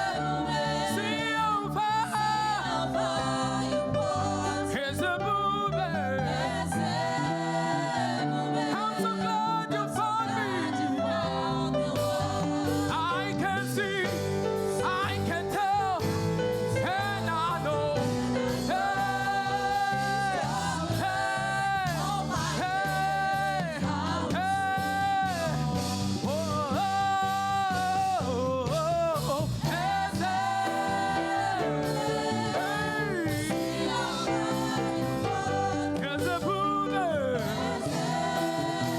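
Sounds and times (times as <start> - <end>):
instrumental accompaniment: 0.0 - 27.8, 29.5 - 38.9
gospel singing: 0.0 - 38.9.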